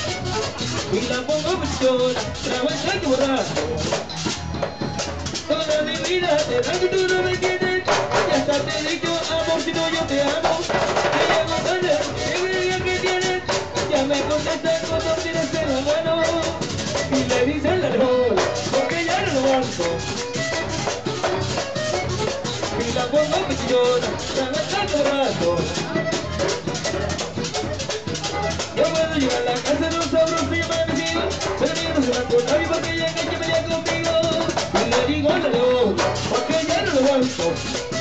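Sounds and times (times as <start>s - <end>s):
accordion melody: 0.0s - 38.0s
hand drum: 0.0s - 38.0s
live band playing: 0.0s - 38.0s
scraped percussion rhythm: 0.0s - 38.0s.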